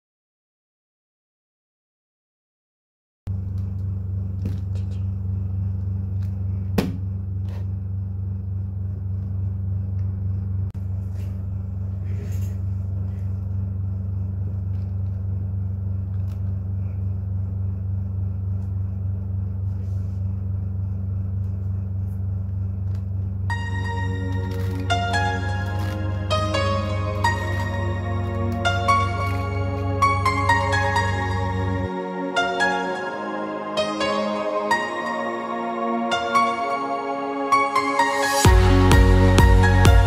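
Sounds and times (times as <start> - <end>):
steady low hum: 3.3 - 37.5.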